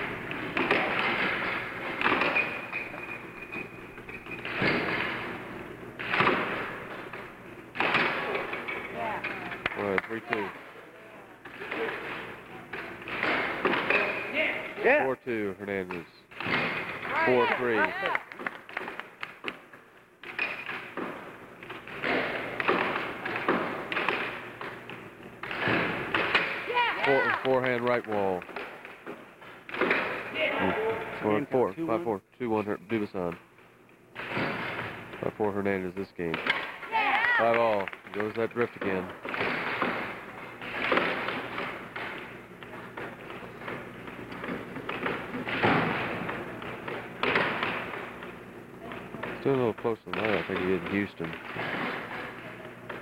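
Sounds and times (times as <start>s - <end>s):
air hockey puck clacking: 0.0s - 10.7s, 11.4s - 14.6s, 15.9s - 30.7s, 36.0s - 53.0s.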